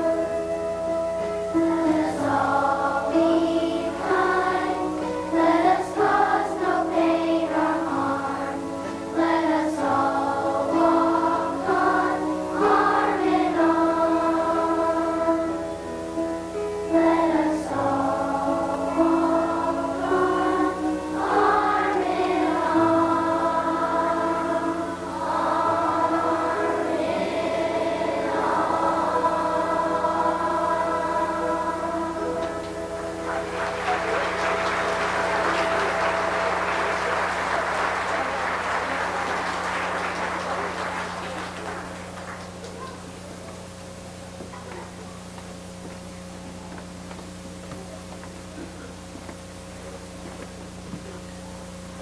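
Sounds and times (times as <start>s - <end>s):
children's choir singing: 0.0s - 43.0s.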